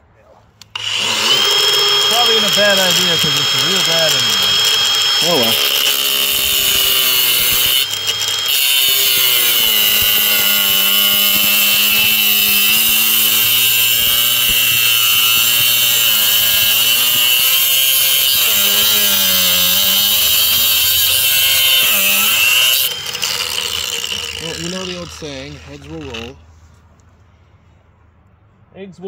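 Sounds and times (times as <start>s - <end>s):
angle grinder cutting metal rail: 0.6s - 26.4s.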